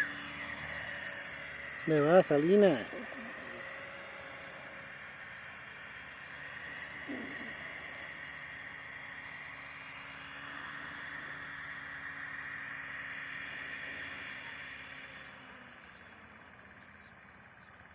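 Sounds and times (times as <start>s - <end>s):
rotor noise: 0.0s - 17.6s
rc helicopter motor whine: 0.0s - 17.9s.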